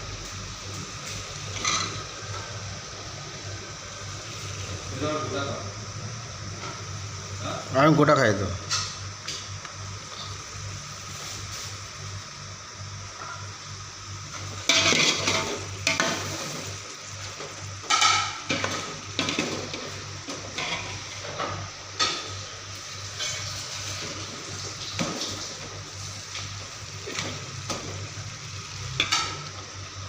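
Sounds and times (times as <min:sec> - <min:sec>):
food sizzling in a pan: 0:00.0 - 0:07.7, 0:08.6 - 0:30.0.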